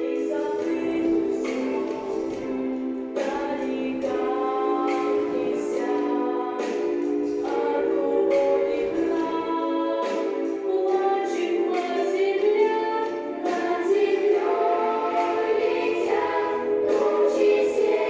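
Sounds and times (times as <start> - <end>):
vocal ensemble singing: 0.0 - 18.0.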